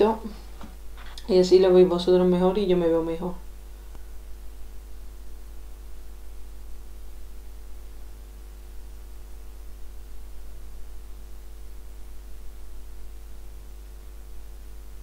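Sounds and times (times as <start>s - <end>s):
low background hum and hiss: 0.0s - 15.0s.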